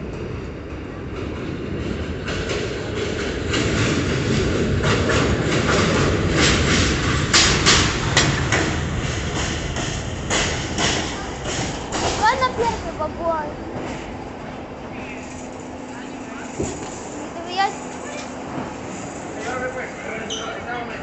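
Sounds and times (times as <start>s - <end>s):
subway train rumble: 0.0s - 21.0s
wheels clacking over rail joints: 1.0s - 21.0s.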